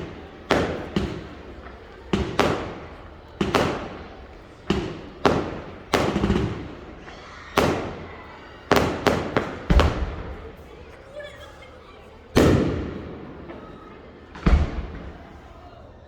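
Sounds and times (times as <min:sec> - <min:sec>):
fireworks bangs echoing: 0:00.0 - 0:15.8.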